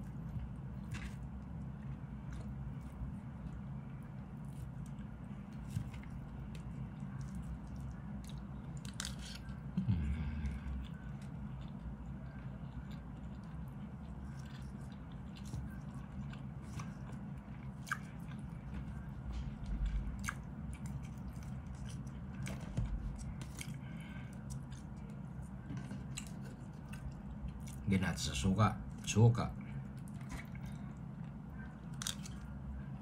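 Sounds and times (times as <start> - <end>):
person chewing: 0.0 - 27.8, 29.8 - 32.6
steady low hum: 0.0 - 33.0.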